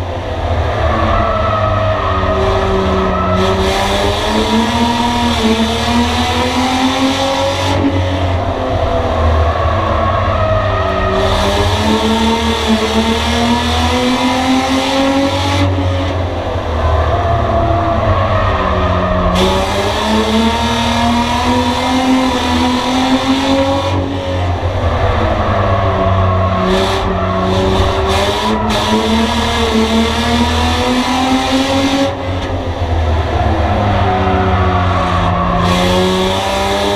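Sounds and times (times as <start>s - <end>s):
race car engine from inside cabin: 0.0s - 36.9s.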